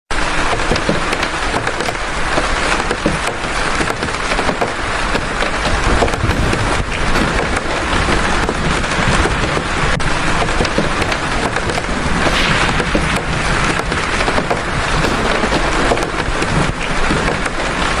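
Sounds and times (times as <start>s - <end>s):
heavy rain falling: 0.1s - 18.0s.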